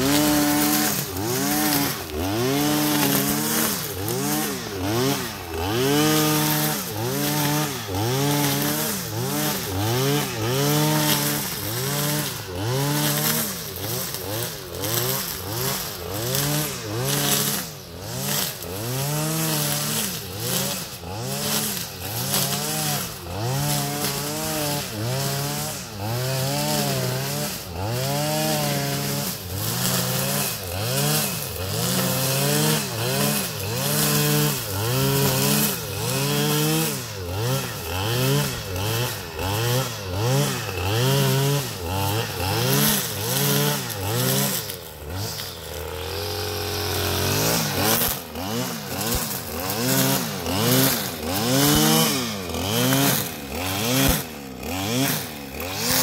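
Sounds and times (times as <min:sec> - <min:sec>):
brushcutter engine revving: 0:00.0 - 0:56.0.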